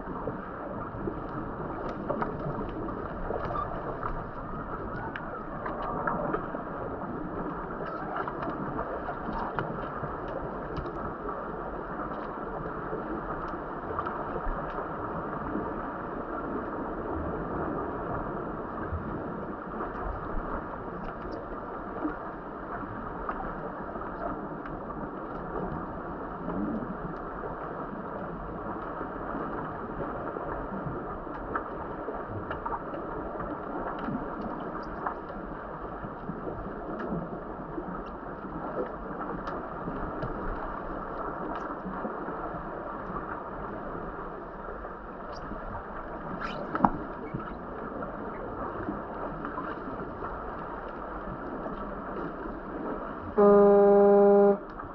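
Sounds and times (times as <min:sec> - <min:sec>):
underwater rushing and bubbling: 0:00.0 - 0:54.9.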